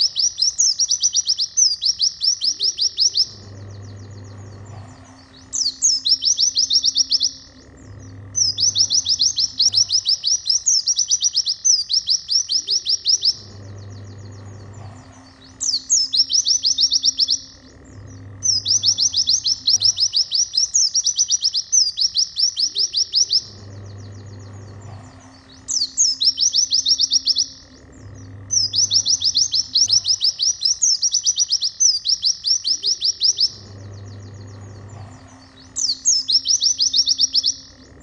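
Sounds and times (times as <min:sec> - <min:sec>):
bird rapid high chirps: 0:00.0 - 0:38.0.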